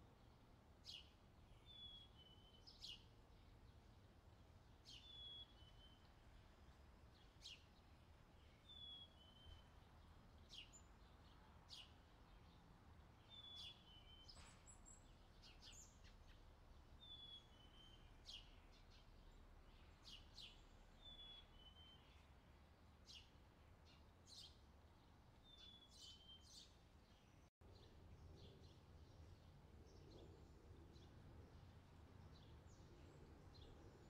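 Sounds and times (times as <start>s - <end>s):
faint bird chirping: 0.2s - 12.6s, 13.2s - 22.4s, 23.0s - 34.0s.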